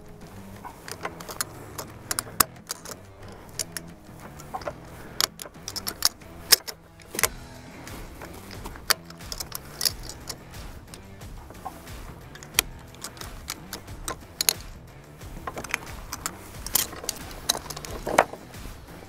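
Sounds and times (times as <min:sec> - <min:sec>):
ratchet strap metallic clicks: 0:00.0 - 0:19.0.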